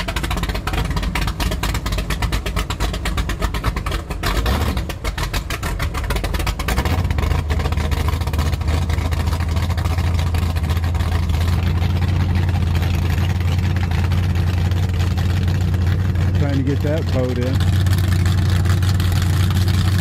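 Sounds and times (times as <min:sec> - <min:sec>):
motorboat engine idling: 0:00.0 - 0:20.0.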